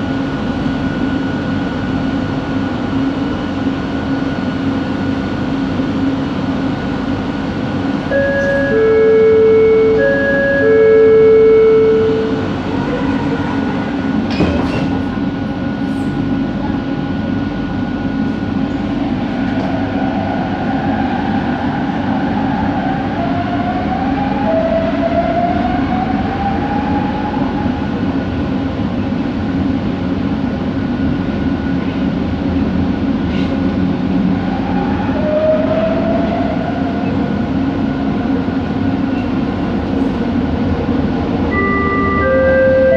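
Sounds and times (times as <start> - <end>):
metro train motor hum and whine: 0.0 - 42.9.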